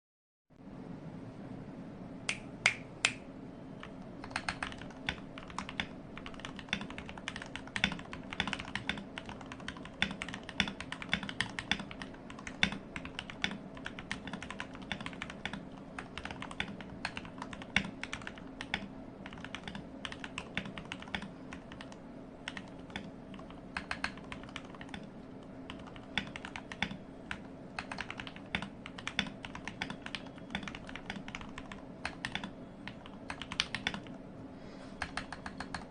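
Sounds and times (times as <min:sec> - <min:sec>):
mechanical keyboard typing: 0:03.8 - 0:34.2, 0:35.0 - 0:35.9.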